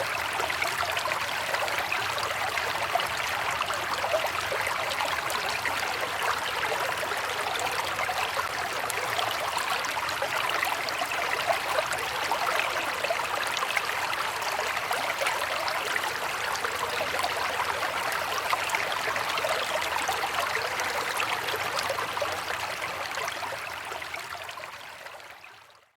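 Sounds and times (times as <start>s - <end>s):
river water flowing: 0.0s - 25.8s.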